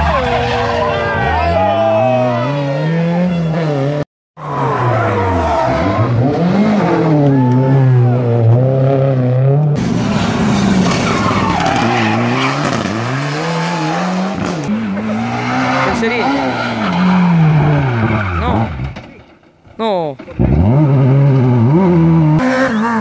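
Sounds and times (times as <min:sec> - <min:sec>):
rally car engines revving: 0:00.0 - 0:19.4, 0:20.2 - 0:23.0.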